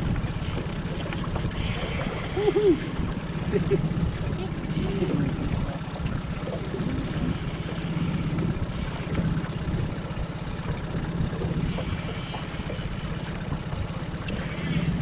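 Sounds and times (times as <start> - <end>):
boat engine running low: 0.0 - 15.0.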